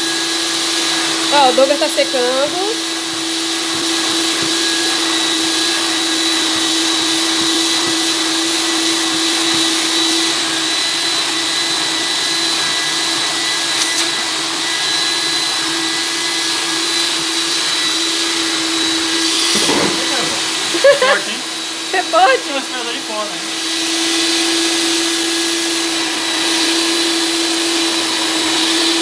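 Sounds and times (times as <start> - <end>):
extractor vacuum motor droning: 0.0 - 29.0.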